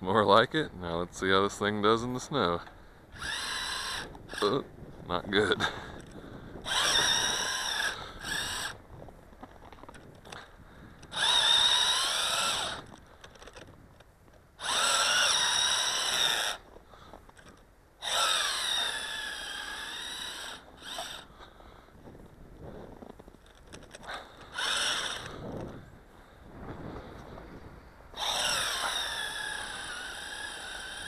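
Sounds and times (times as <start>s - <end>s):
small electric motor whining: 3.1s - 13.8s, 14.6s - 21.6s, 22.9s - 26.0s, 26.9s - 31.0s.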